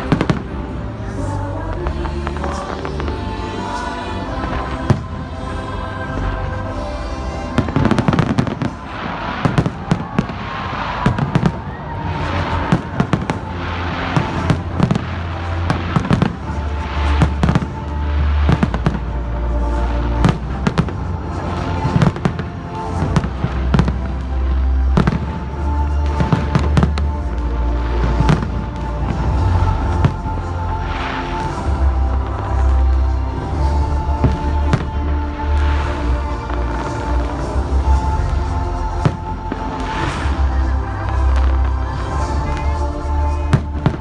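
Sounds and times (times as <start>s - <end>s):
fireworks banging and crackling: 0.0s - 44.0s
loud music with heavy bass: 0.0s - 44.0s.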